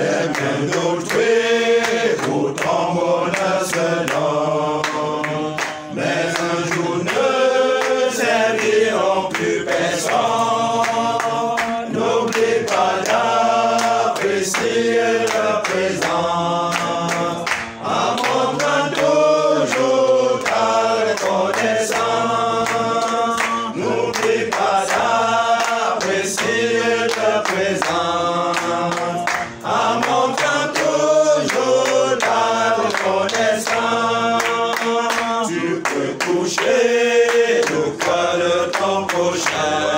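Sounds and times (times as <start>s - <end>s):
group singing worship song: 0.0s - 39.9s
hand claps: 0.0s - 39.9s.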